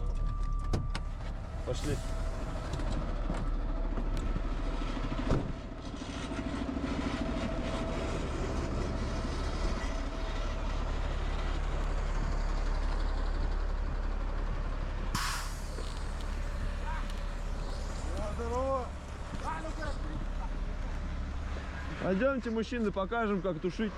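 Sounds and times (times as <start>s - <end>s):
fire engine motor rumbling: 0.0s - 23.9s.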